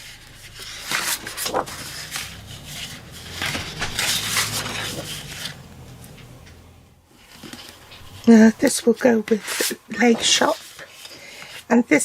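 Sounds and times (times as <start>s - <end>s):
paper rustling and crinkling: 0.5s - 6.3s, 7.1s - 11.7s.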